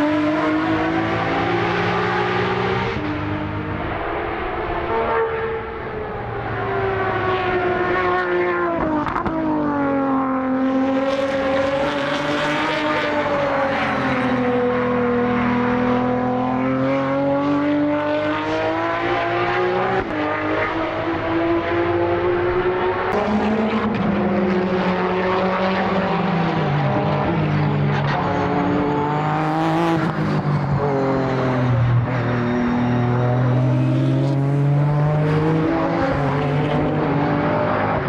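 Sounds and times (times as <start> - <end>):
race car engine: 0.0 - 38.0.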